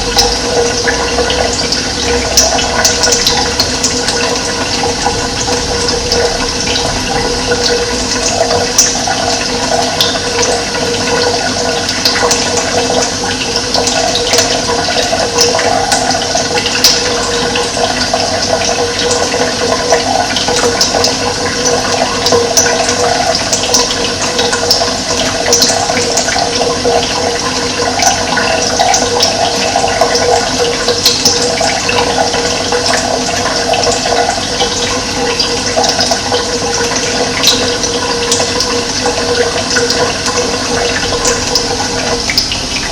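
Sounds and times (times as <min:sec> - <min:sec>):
water rushing and splashing: 0:00.0 - 0:42.9.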